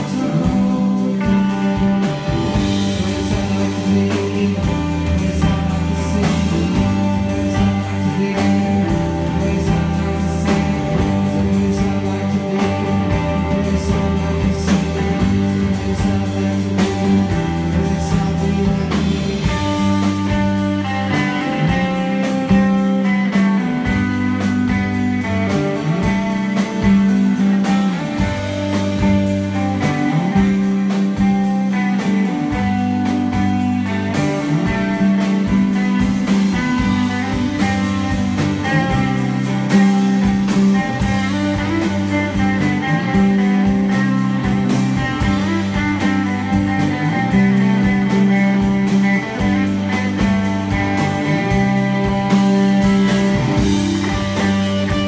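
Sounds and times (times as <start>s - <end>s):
bass guitar: 0.0s - 55.0s
electric guitars: 0.0s - 55.0s
steady drum beat: 0.0s - 55.0s.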